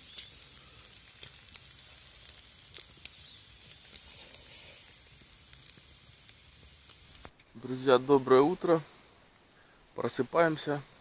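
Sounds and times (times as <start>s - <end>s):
meat sizzling: 0.0s - 10.8s.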